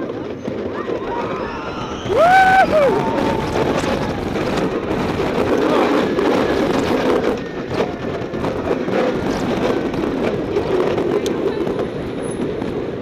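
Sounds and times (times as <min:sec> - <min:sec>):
roller coaster clacks: 0:00.0 - 0:13.0
roller coaster rumble and rattle: 0:00.0 - 0:13.0.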